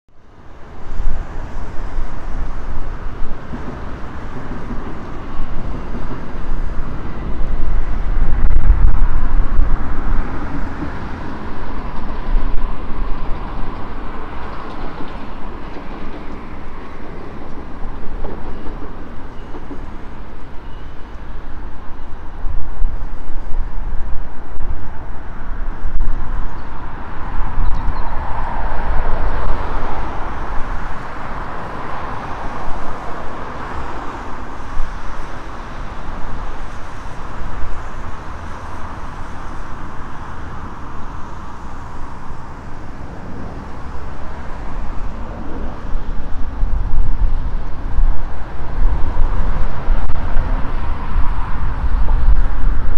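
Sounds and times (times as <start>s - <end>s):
road traffic: 0.1s - 52.9s
wind buffeting microphone: 0.1s - 52.9s.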